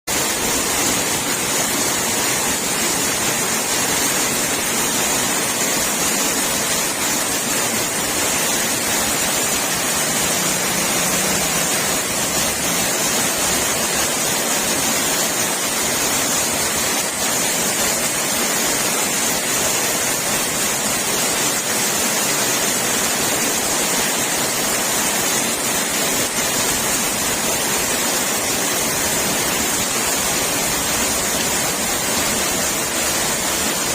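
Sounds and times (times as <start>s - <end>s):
heavy rain: 0.0s - 33.9s
runoff water rushing: 0.0s - 33.9s.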